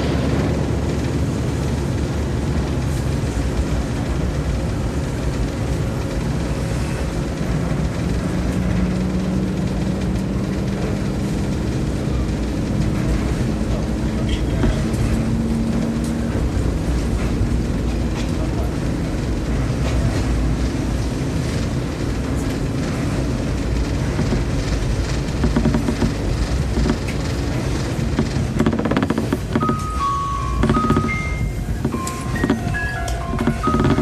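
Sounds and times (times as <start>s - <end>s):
diesel train engine rumbling: 0.0s - 34.0s.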